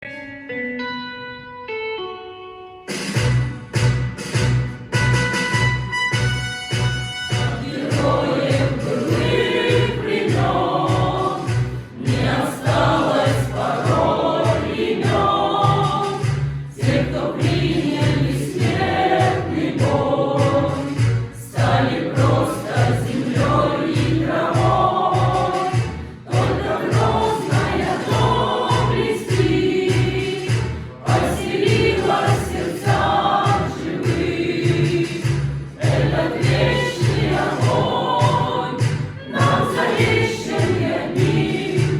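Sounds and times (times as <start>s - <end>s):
steady bass beat: 3.2s - 41.9s
group of voices singing: 7.3s - 41.9s.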